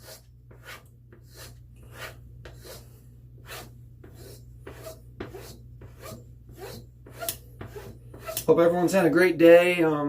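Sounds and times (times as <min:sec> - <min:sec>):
razor swishing on strop: 0:00.0 - 0:08.5.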